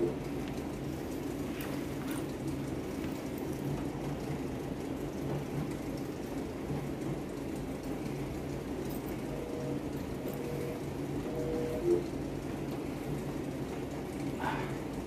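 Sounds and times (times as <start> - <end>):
exercise bike flywheel whirring: 0.0 - 15.0.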